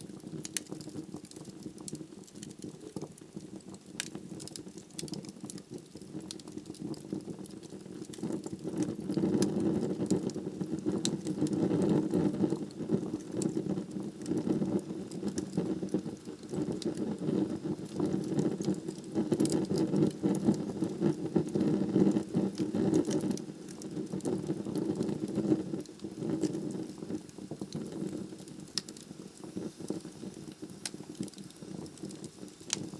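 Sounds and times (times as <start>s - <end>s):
fire burning in fireplace: 0.0s - 32.9s
fire crackles and pops: 0.0s - 32.9s.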